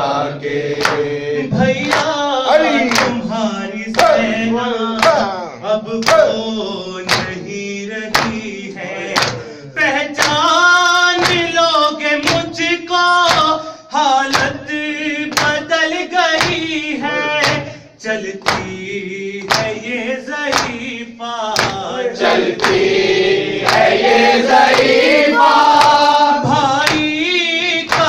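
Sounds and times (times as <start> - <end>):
men singing a lament: 0.0 - 28.0.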